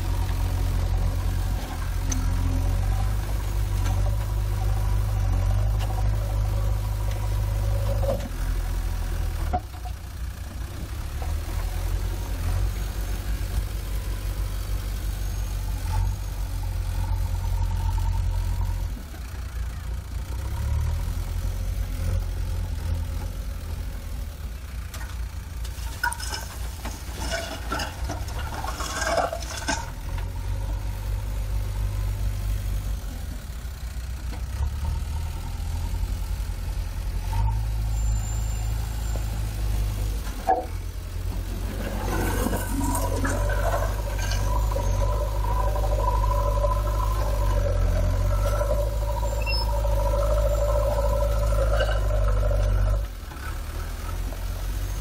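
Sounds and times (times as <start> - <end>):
diesel engine rumbling under load: 0.0 - 55.0.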